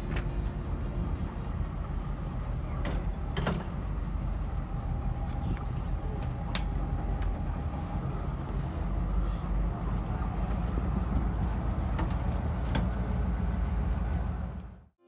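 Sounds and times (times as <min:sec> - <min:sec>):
wind on open deck: 0:00.0 - 0:14.8
boat engine rumble: 0:00.0 - 0:15.0.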